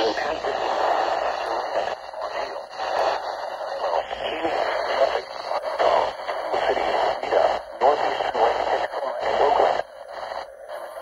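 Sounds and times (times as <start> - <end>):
tinny radio broadcast voice: 0.0 - 11.0.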